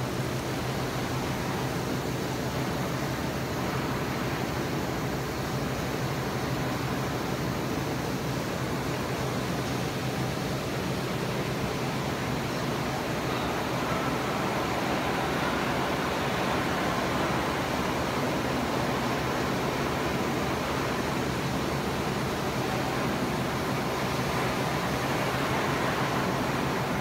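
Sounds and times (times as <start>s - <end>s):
machine hum and hiss: 0.0s - 27.0s.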